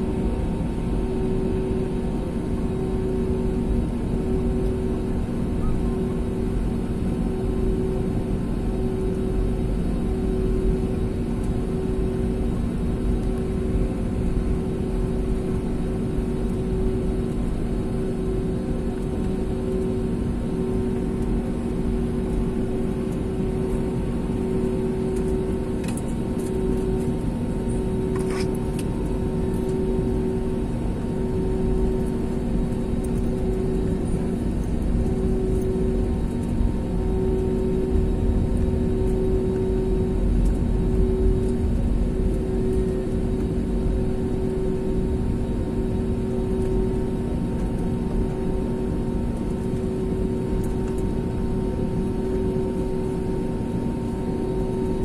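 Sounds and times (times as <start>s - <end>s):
jet engine rumble: 0.0s - 55.0s
steady hum tones: 0.0s - 55.0s.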